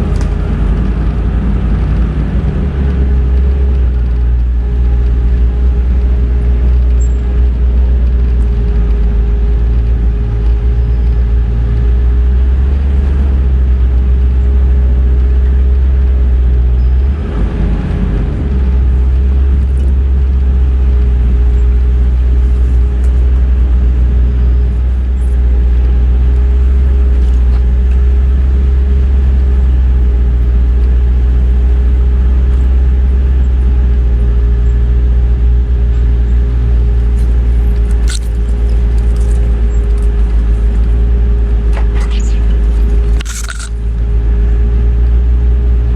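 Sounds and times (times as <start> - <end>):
car engine deep drone: 0.0 - 45.9.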